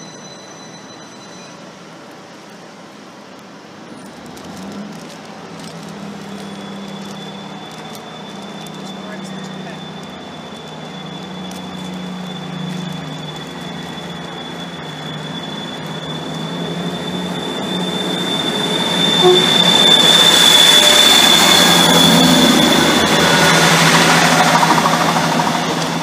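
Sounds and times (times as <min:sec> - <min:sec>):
train rumble: 0:01.6 - 0:26.0
high-pitched squeal: 0:03.9 - 0:26.0.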